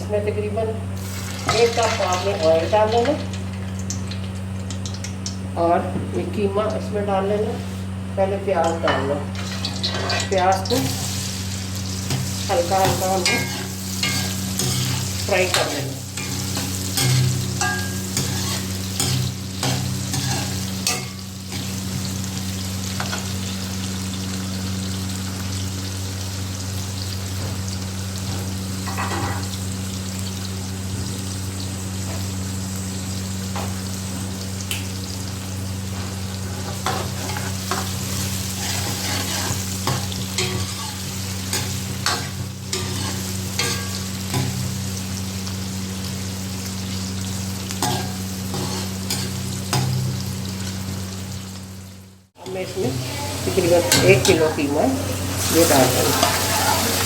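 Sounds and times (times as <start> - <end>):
steady low hum: 0.0 - 56.8
onions sizzling in hot oil: 1.0 - 5.6, 8.6 - 57.0.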